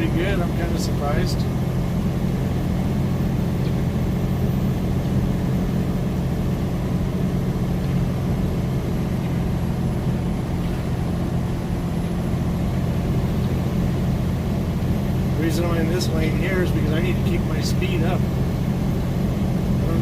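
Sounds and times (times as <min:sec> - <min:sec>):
diesel truck engine droning: 0:00.0 - 0:20.0
road noise: 0:00.0 - 0:20.0.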